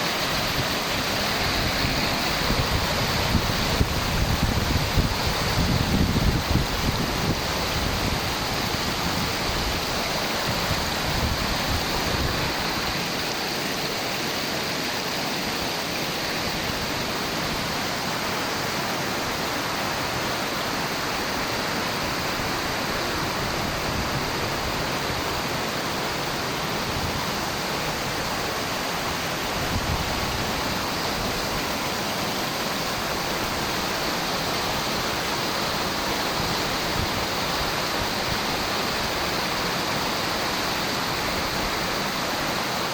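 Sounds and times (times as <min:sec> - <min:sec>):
spring water gushing: 0:00.0 - 0:42.9.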